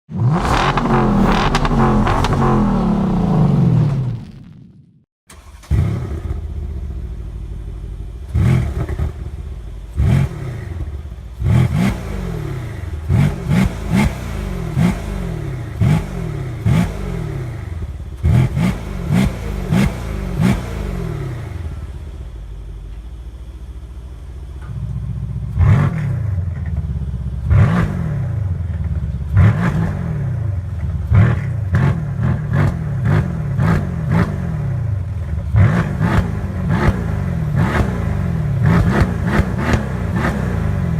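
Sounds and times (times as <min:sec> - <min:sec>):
car engine idling: 0:00.1 - 0:04.6, 0:05.3 - 0:27.6, 0:28.2 - 0:29.5, 0:30.2 - 0:33.4, 0:34.0 - 0:40.9
engine throttle blips: 0:00.1 - 0:40.9.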